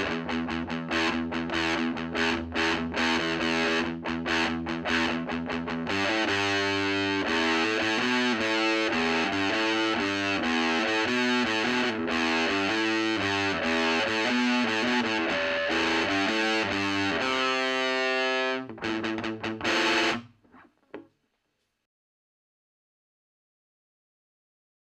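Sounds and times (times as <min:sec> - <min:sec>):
distorted electric guitar riff: 0:00.0 - 0:20.6.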